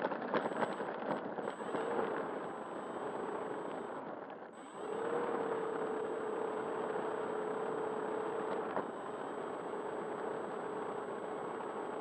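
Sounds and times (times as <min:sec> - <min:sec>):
model plane motor and propeller: 0:00.0 - 0:12.0.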